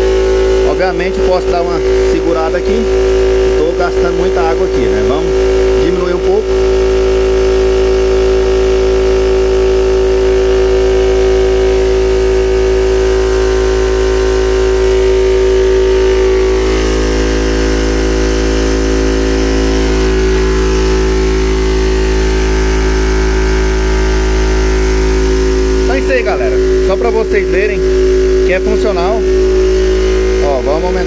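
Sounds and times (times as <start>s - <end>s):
air compressor droning: 0.0s - 31.0s.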